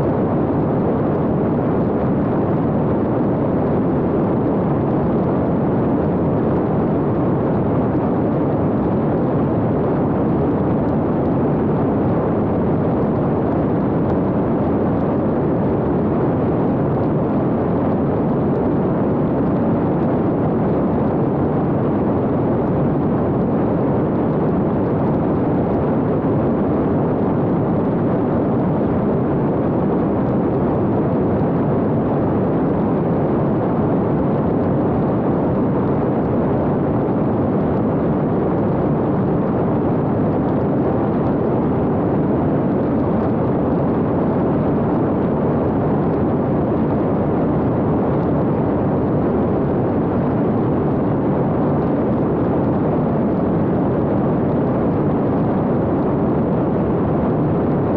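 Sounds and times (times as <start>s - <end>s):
airflow and propeller noise: 0.0s - 57.9s.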